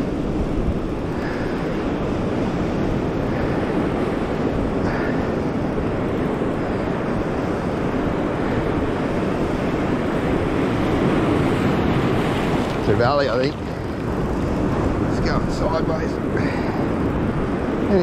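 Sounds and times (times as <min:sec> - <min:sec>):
surf washing over rocks: 0:00.0 - 0:18.0
wind buffeting microphone: 0:00.0 - 0:18.0.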